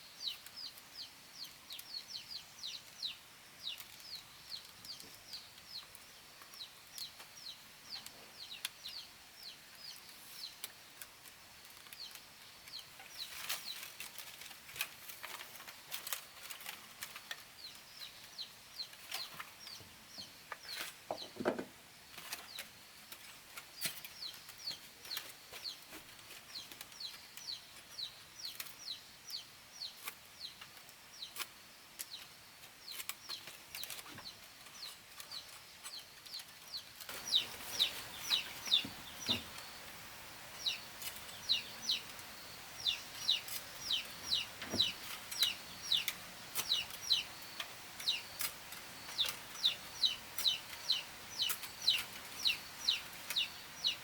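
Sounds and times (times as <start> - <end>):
chicks peeping: 0.2 - 11.0, 11.7 - 21.4, 22.1 - 54.0.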